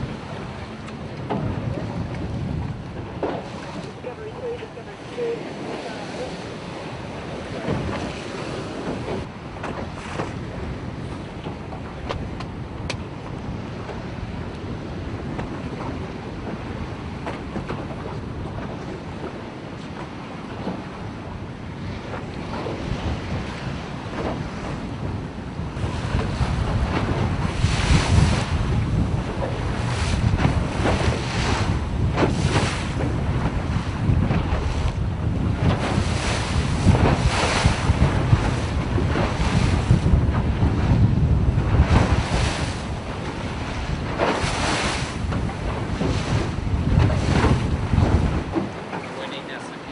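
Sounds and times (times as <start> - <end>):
waves splashing: 0.0 - 49.9
wind buffeting microphone: 0.0 - 49.9.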